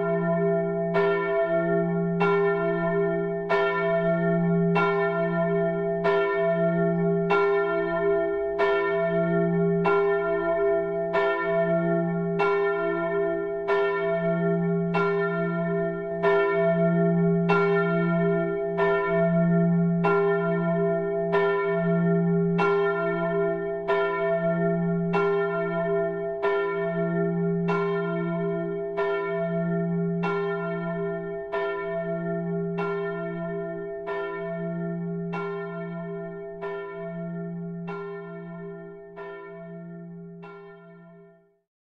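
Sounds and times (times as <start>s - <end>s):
church bell tolling: 0.0s - 41.4s.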